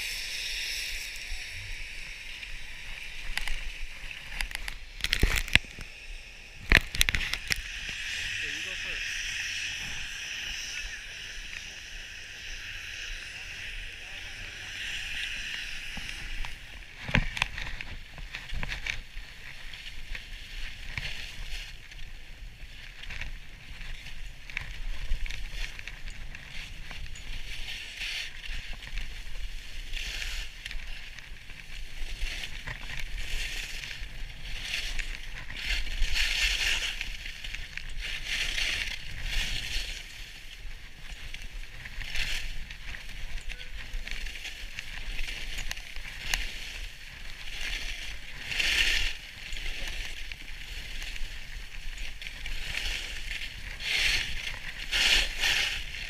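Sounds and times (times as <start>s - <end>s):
skis scraping and hissing over snow: 0.0s - 56.0s
wind rumbling on microphone: 0.0s - 56.0s.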